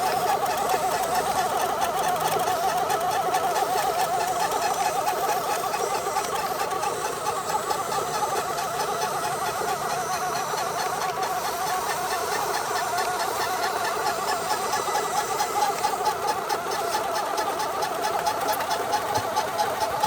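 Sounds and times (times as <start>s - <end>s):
combine harvester running: 0.0s - 20.0s
fast fine mechanical ticking: 0.0s - 20.0s.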